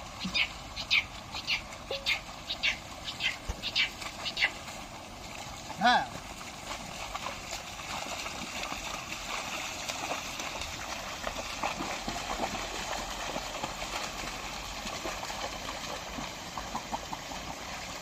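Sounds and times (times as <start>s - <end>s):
hooves splashing in mud: 0.0s - 18.0s
plough in water and mud: 0.0s - 18.0s.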